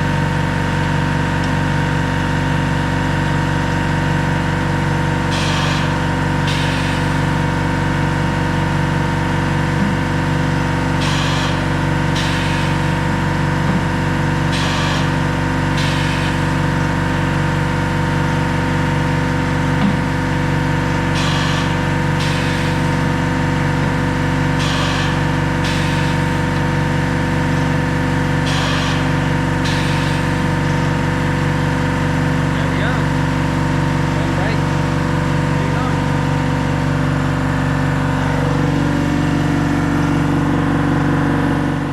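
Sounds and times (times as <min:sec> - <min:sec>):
motor humming: 0:00.0 - 0:41.9.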